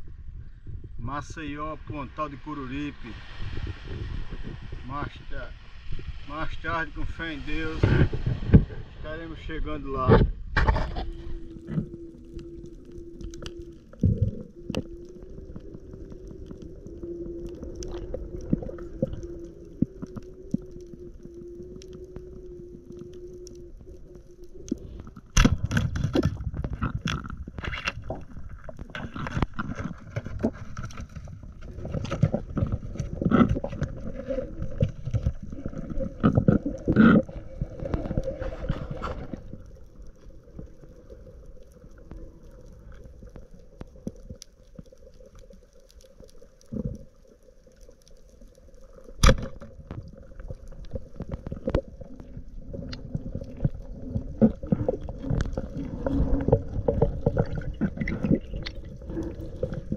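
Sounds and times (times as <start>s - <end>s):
water rushing and gurgling: 1.0s - 59.9s.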